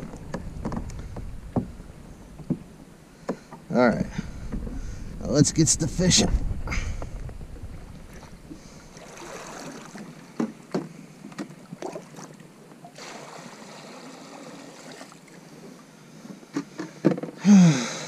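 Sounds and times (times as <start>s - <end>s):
water swishing around paddle: 0.0s - 5.2s, 5.9s - 17.4s.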